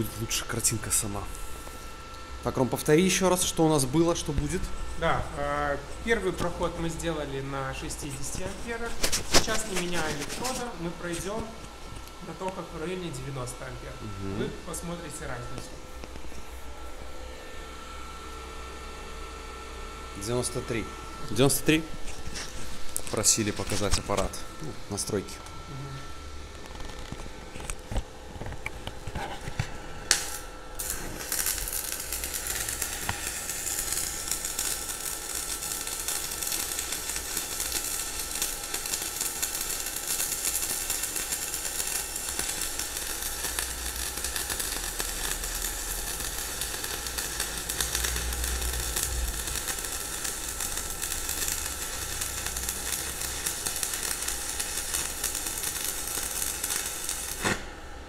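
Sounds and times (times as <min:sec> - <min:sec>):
welding arc hissing and crackling: 0:00.0 - 0:58.0.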